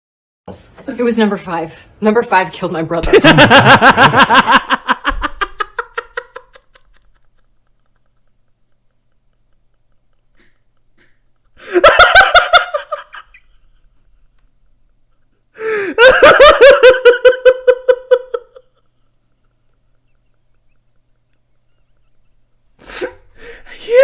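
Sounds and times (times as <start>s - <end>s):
man laughing: 3.1s - 23.0s, 23.7s - 24.0s.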